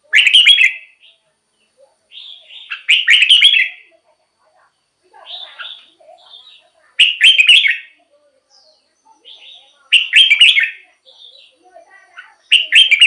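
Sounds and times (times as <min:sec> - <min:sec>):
bird warbling song: 0:00.0 - 0:03.9, 0:05.2 - 0:13.0
faint bird chirps: 0:00.0 - 0:13.0.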